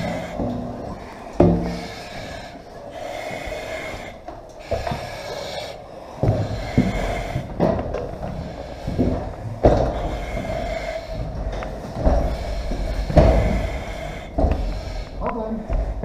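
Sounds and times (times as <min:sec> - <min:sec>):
heavy breathing through mask: 0:00.0 - 0:16.0.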